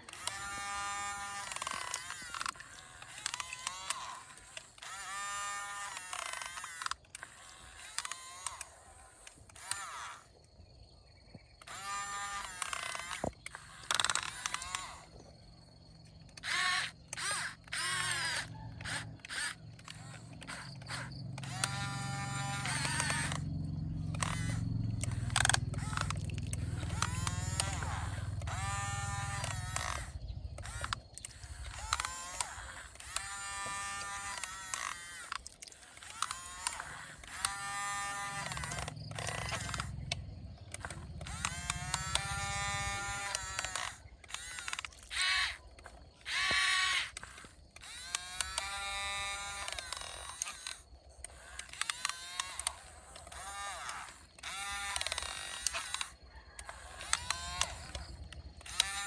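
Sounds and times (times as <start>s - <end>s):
small electric motors whining: 0.0s - 59.0s.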